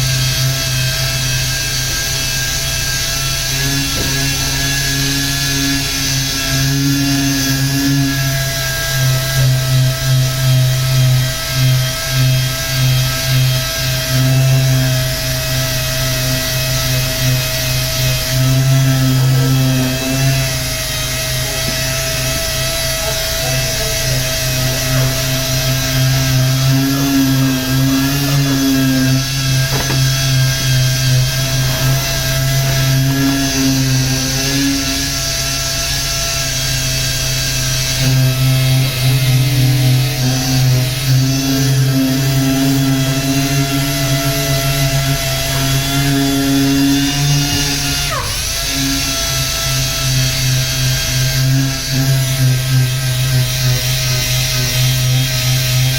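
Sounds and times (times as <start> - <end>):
power sander humming: 0.0 - 55.9.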